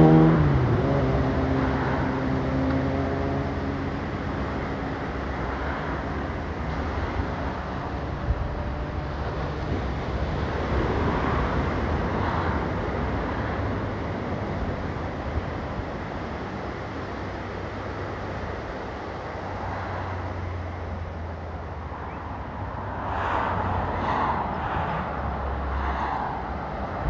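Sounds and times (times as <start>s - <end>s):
engine hum: 0.0s - 27.0s
wind rumbling on microphone: 0.0s - 27.0s
ocean surf rushing: 3.8s - 27.0s.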